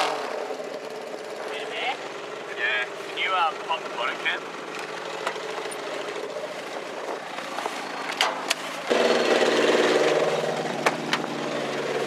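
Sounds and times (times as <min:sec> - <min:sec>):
engine idling low: 0:00.0 - 0:12.0
loud motorcycle engine idling: 0:00.1 - 0:08.2, 0:08.8 - 0:12.0.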